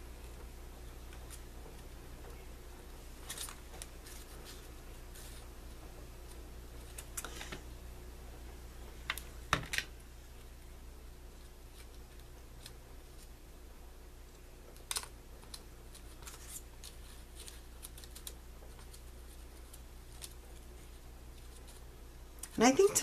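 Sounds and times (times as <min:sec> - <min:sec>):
faint low steady hum: 0:00.0 - 0:23.0.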